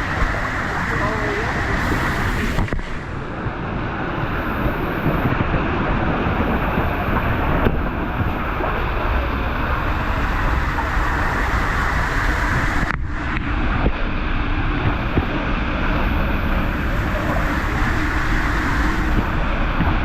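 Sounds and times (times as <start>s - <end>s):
rushing water: 0.0s - 20.0s
wind buffeting microphone: 0.0s - 20.0s.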